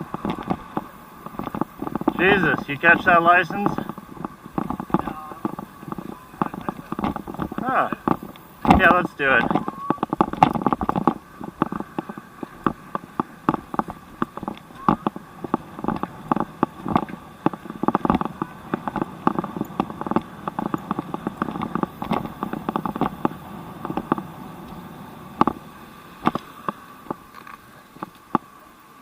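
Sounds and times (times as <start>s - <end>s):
bicycle rattling and clicking: 0.0s - 28.5s.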